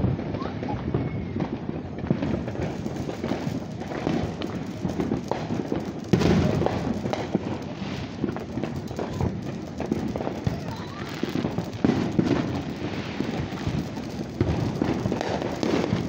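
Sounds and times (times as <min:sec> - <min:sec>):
fireworks crackling and popping: 0:00.0 - 0:16.0
loud firework bang: 0:00.2 - 0:16.0.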